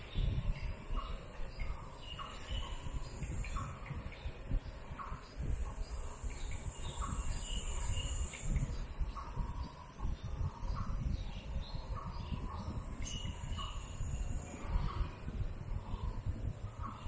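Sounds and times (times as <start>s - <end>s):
uneven low rumble: 0.0s - 17.0s.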